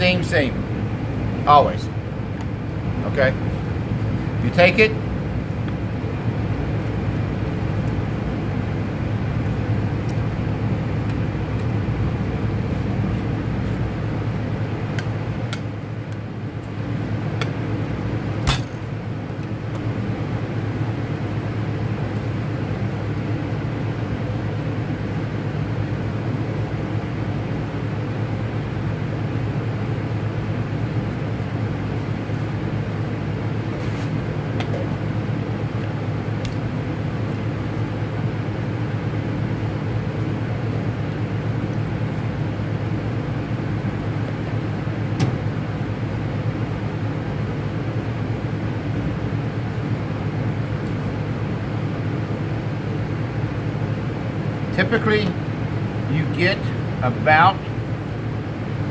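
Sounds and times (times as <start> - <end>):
kitchen machinery hum: 0.0 - 58.9.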